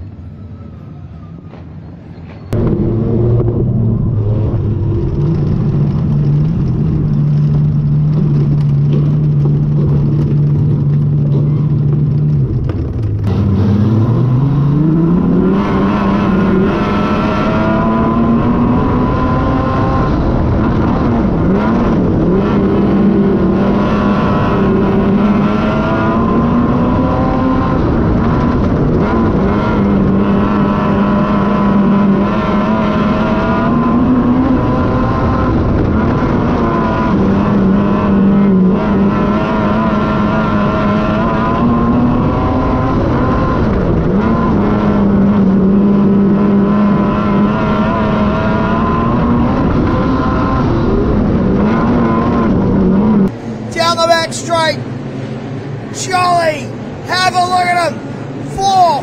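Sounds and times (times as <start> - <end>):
race car engine revving: 2.5 - 59.0.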